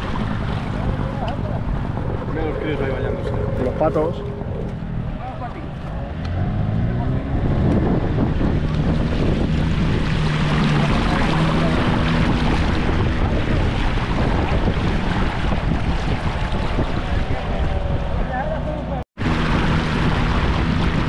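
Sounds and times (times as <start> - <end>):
small boat motor running: 0.0 - 21.0
wind buffeting microphone: 0.0 - 21.0.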